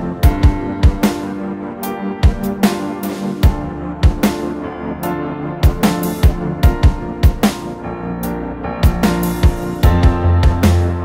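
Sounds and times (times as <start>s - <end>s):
music with held chords and drums: 0.0s - 11.0s.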